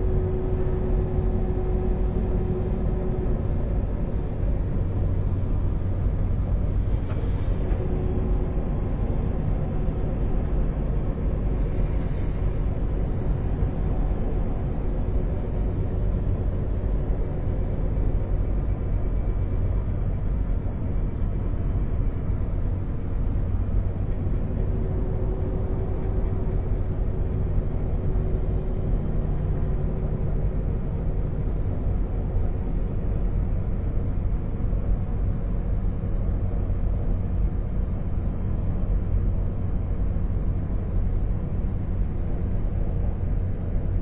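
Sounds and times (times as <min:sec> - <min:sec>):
engine hum: 0:00.0 - 0:44.0.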